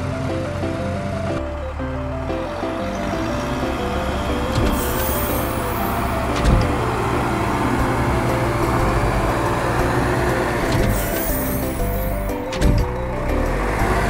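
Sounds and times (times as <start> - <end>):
road roller engine rumbling: 0.0 - 14.0.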